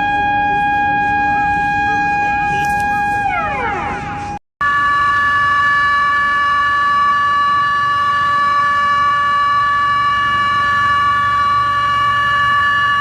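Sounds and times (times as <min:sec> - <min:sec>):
siren-like alarm tones: 0:00.0 - 0:13.0.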